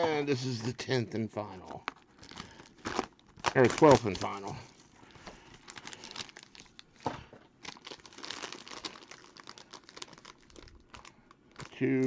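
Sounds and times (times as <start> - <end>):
foil packs crinkling: 1.5 - 12.0.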